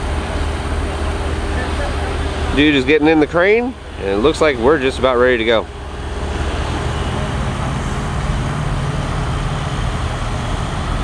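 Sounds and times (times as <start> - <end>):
crane diesel engine running: 0.0 - 11.0.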